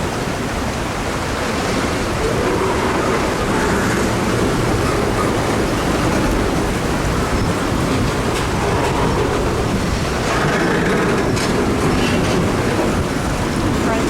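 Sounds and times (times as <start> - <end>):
freight train cars rolling: 0.0 - 14.0.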